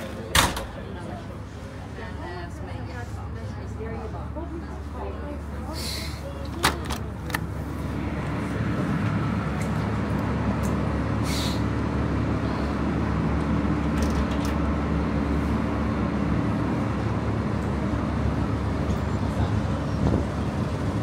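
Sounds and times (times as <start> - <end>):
ferry engine drone: 0.0 - 21.0.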